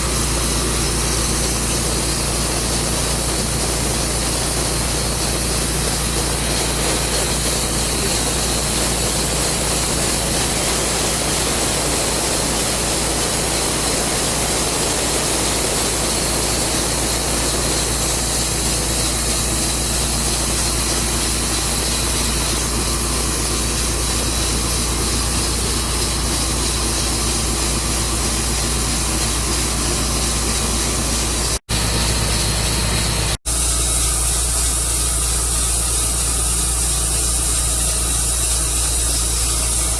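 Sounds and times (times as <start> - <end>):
saw cutting log hiss: 0.0 - 39.9
sawmill engine hum: 0.0 - 39.9.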